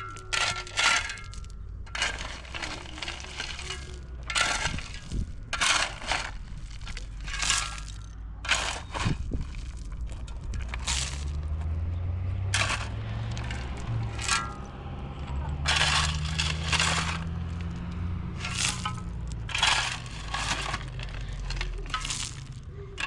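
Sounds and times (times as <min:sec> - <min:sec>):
crunching breaking noises: 0:00.0 - 0:14.8, 0:15.4 - 0:23.0.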